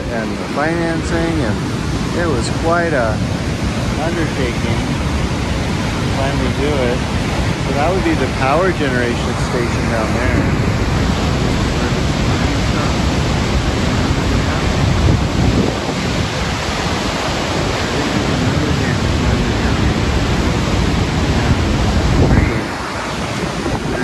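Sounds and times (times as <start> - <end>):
low rumble: 0.0 - 24.0
water rushing: 0.0 - 24.0
wind buffeting microphone: 0.0 - 24.0.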